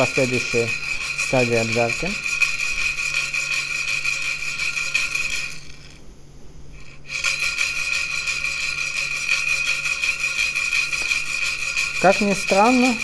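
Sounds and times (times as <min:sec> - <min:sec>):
coffee beans rattling in clay roaster: 0:00.0 - 0:06.0, 0:06.7 - 0:13.0.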